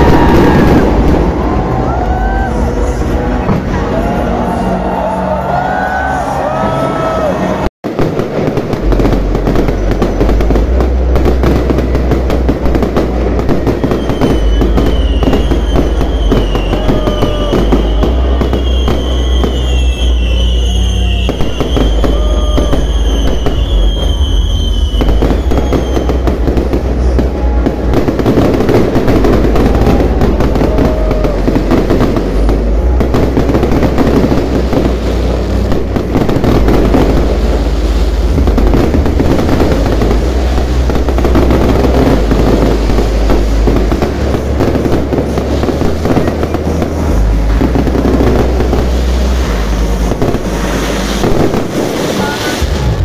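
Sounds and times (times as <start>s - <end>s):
fireworks crackling and popping: 0.0s - 53.0s.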